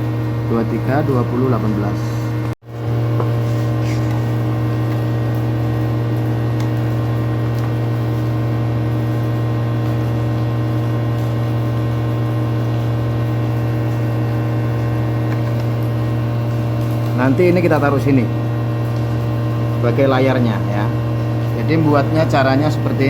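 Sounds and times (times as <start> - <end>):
steady low hum with tones: 0.0 - 23.0.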